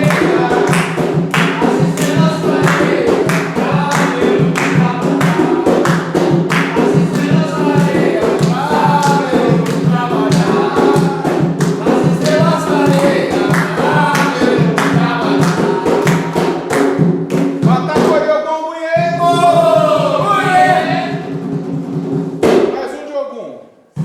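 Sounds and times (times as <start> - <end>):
group singing a chant: 0.0 - 18.3, 19.0 - 21.6
steady drum beats: 0.0 - 23.0.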